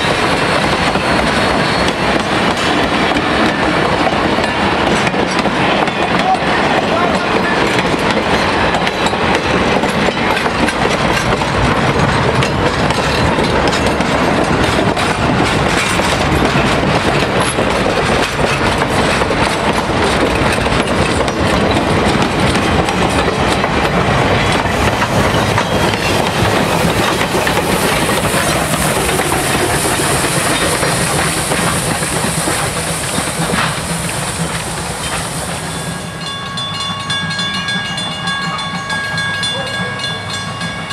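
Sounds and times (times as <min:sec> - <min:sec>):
train wheels clattering over rail joints: 0:00.0 - 0:40.0.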